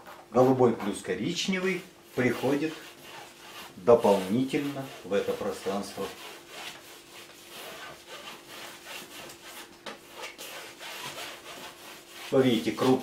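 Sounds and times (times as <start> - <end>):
palette knife scraping canvas: 0.0 - 13.0.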